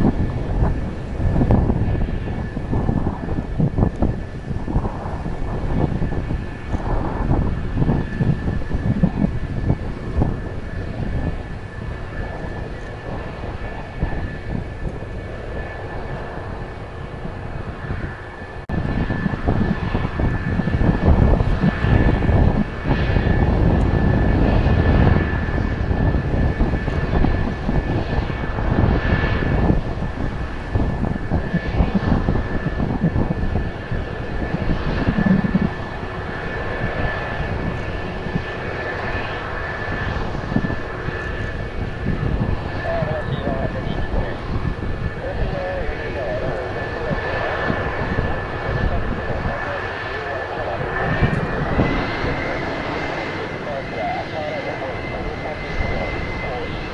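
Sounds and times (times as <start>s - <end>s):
jet engines idling: 0.0s - 56.9s.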